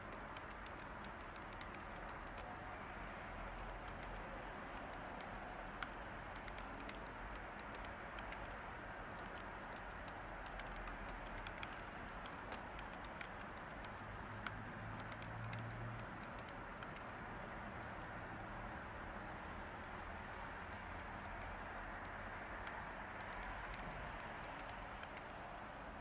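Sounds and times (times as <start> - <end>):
computer keyboard key clicks: 0.0 - 2.5, 3.5 - 17.2, 20.7 - 25.4
white noise hiss: 0.0 - 26.0.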